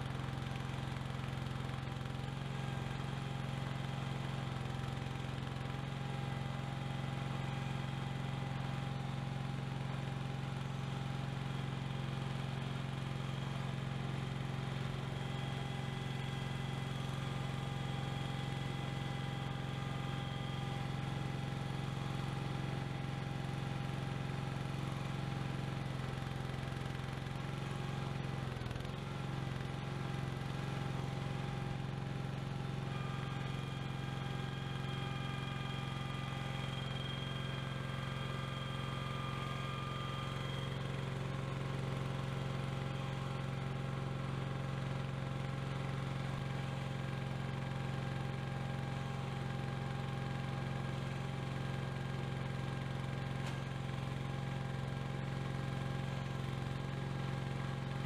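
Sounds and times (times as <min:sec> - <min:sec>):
garden tractor engine running: 0:00.0 - 0:58.0.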